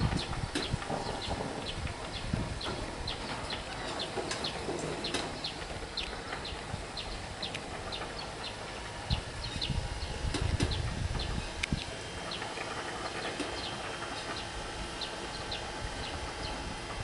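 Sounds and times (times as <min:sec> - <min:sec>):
low background rumble: 0:00.0 - 0:17.0
small birds chirping: 0:00.2 - 0:16.8.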